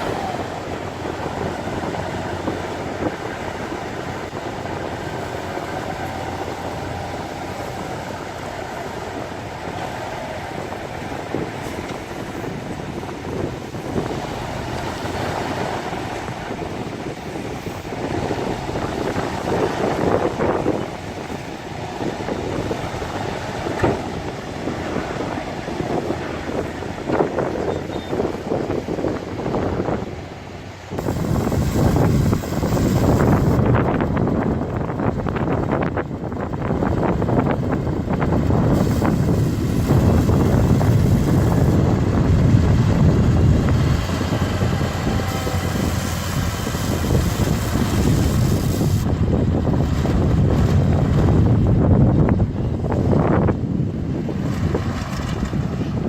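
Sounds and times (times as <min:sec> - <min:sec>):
diesel machinery rumbling: 0:00.0 - 0:56.0
wind buffeting microphone: 0:00.0 - 0:56.0.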